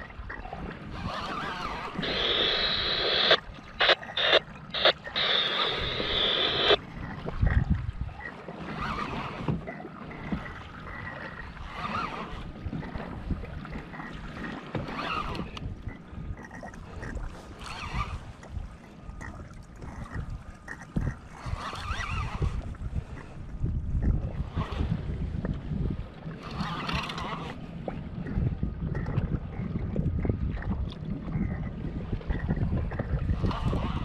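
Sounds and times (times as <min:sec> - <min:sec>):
water slapping kayak hull: 0:00.0 - 0:34.0
wind buffeting microphone: 0:00.0 - 0:34.0.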